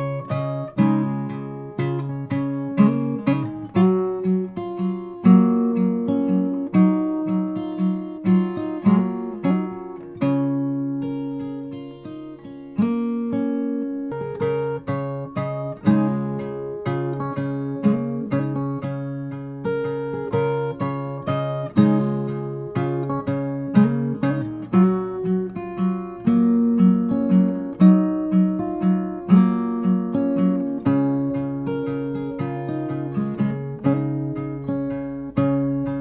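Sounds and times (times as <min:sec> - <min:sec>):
fingerpicked acoustic guitar: 0:00.0 - 0:36.0.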